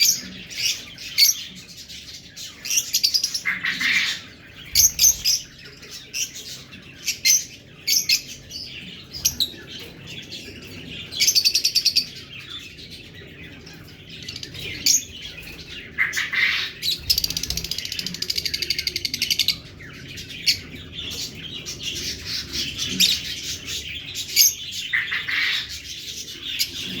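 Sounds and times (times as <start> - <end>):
lovebirds chirping and chattering: 0.0 - 27.0.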